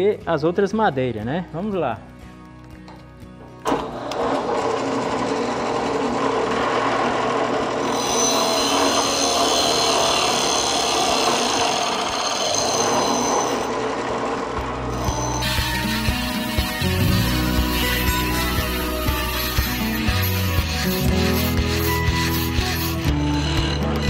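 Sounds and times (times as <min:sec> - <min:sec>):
drill press boring wood: 0:03.7 - 0:24.0.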